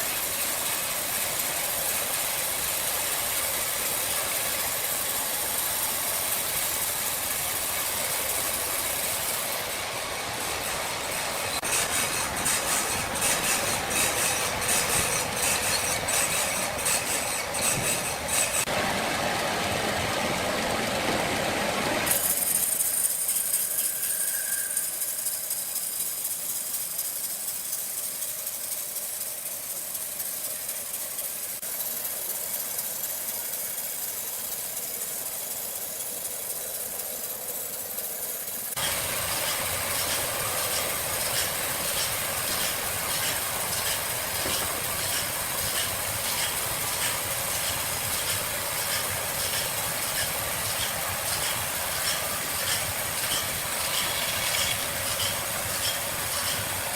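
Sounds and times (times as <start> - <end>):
mechanical clatter with ticking beat: 0.0 - 18.8, 22.1 - 56.9
sawmill machinery hissing: 0.0 - 56.9.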